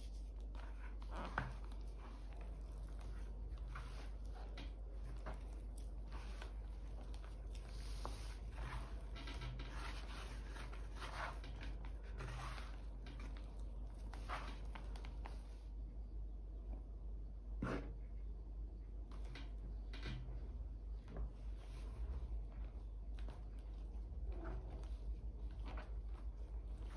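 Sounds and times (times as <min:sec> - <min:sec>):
hands kneading wet dough: 0:00.0 - 0:15.8, 0:18.9 - 0:26.9.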